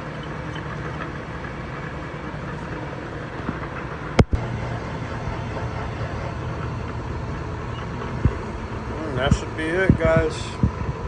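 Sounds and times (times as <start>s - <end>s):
machine shop equipment humming: 0.0s - 11.0s.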